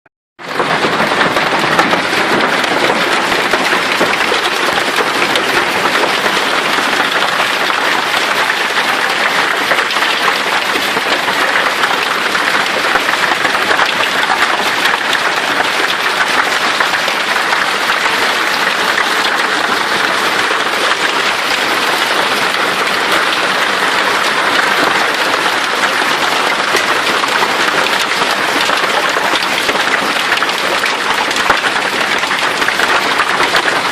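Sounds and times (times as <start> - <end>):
heavy hail pelting down: 0.4 - 33.9.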